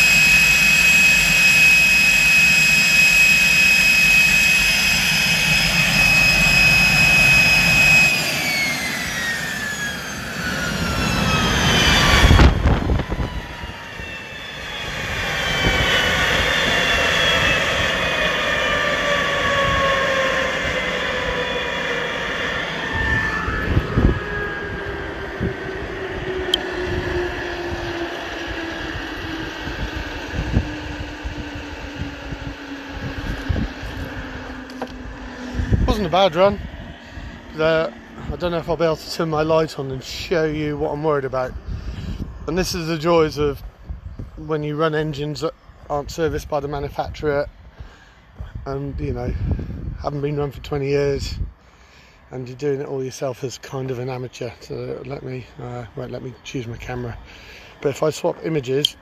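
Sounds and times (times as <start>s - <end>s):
loud rush of noise: 0.0s - 50.6s
jet engine whine: 0.0s - 59.0s.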